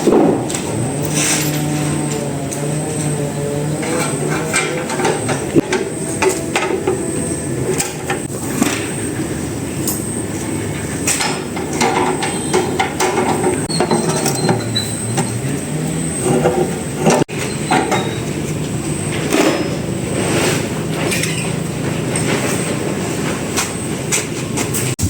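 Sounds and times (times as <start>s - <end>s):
generator engine running: 0.0s - 25.0s
metallic knocks and clatter: 0.0s - 25.0s.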